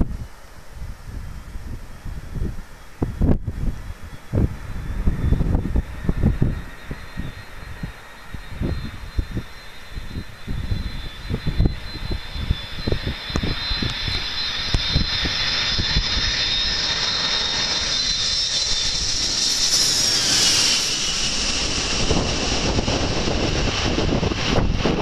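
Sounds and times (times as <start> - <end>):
jet engines passing overhead: 0.0 - 25.0
wind buffeting microphone: 0.0 - 25.0.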